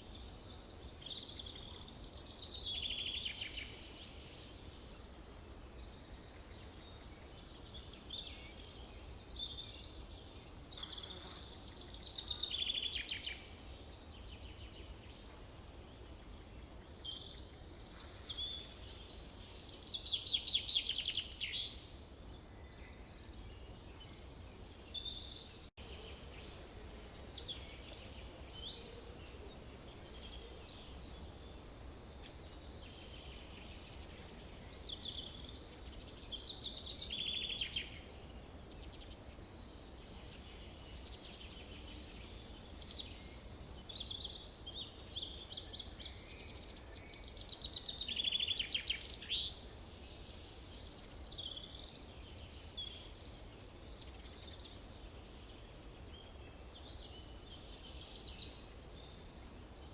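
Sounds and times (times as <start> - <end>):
forest birds singing and trilling: 0.0 - 59.9.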